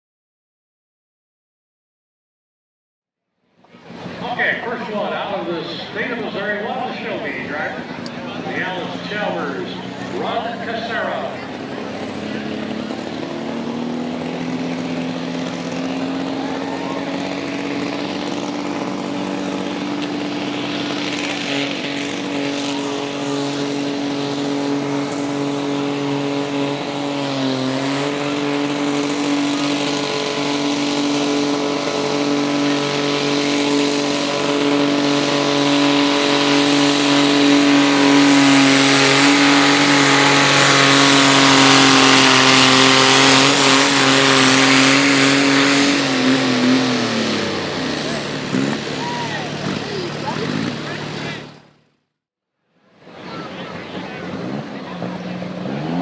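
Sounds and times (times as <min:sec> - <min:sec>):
diesel tractor engine under load: 0:03.6 - 0:52.0, 0:52.9 - 0:56.0.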